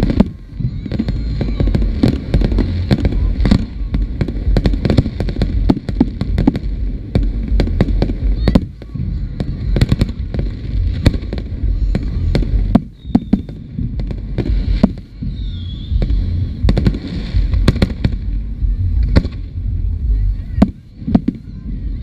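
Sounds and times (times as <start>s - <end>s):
fireworks bursting: 0.0s - 22.0s
low rumble: 0.0s - 22.0s.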